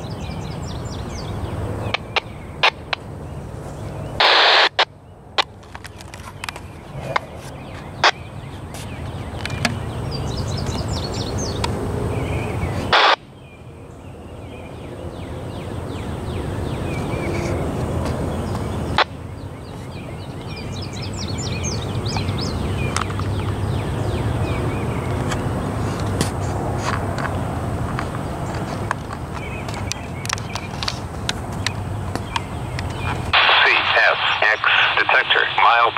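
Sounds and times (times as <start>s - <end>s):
low outdoor rumble: 0.0s - 35.9s
songbirds chirping: 0.0s - 35.9s.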